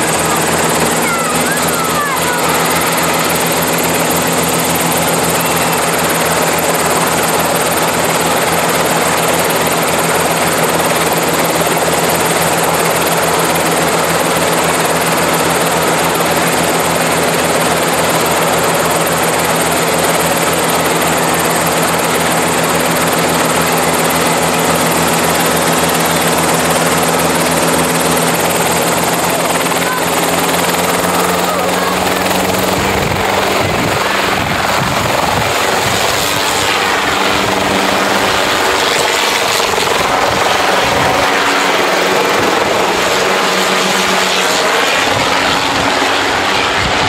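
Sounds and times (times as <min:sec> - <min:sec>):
helicopter engine whine: 0:00.0 - 0:47.0
helicopter rotor beating: 0:00.0 - 0:47.0.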